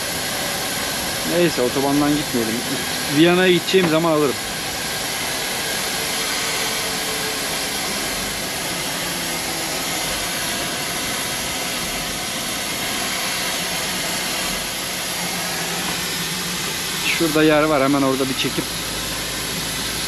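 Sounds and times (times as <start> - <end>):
compressed air hissing: 0.0 - 20.0
engine and road noise: 0.0 - 20.0.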